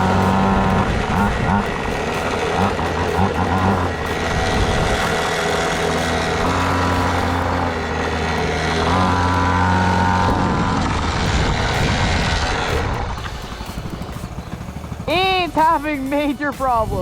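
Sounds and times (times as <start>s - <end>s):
small two-stroke engine running: 0.0s - 17.0s.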